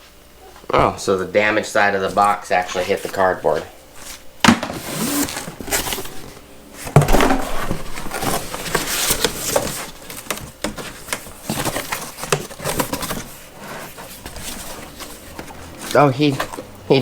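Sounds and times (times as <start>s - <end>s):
cardboard rustling and scraping: 0.5s - 17.0s.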